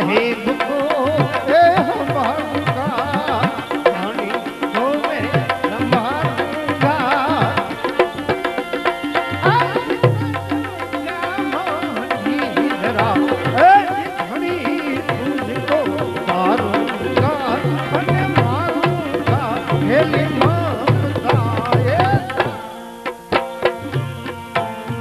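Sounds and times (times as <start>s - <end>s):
tabla rhythm: 0.0s - 25.0s.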